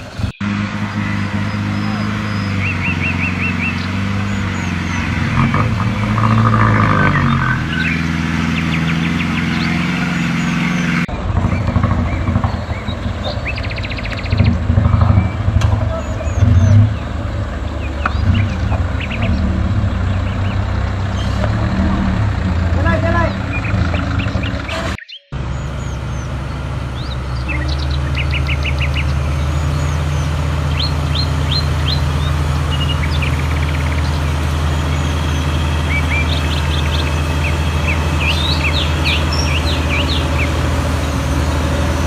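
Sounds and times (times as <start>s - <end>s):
birds chirping: 0.0s - 42.0s
off-road vehicle engine running: 0.0s - 42.0s.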